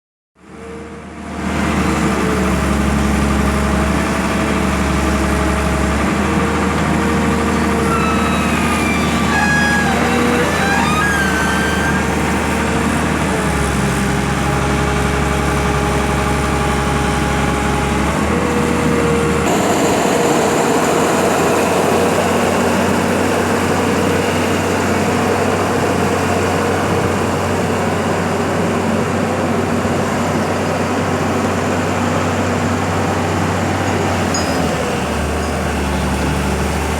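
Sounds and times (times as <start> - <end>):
heavy vehicle engine running: 0.4 - 36.9.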